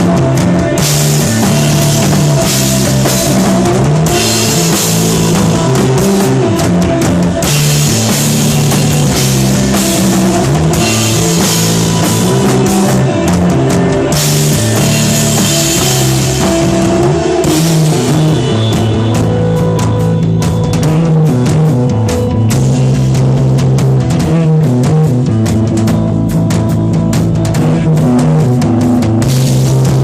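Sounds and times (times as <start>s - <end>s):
drum kit with cymbals: 0.0s - 30.0s
held bass notes: 0.0s - 30.0s.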